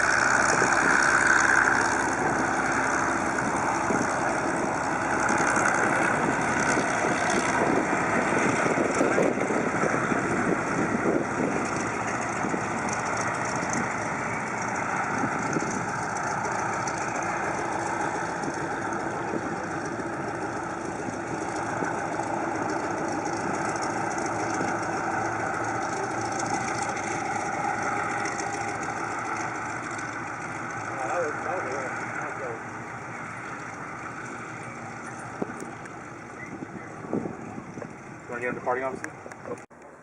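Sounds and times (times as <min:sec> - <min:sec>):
piston aircraft engine running: 0:00.0 - 0:40.0.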